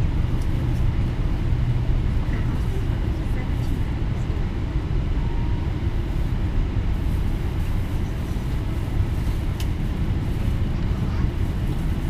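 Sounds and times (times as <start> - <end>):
airliner low rumble: 0.0 - 12.0.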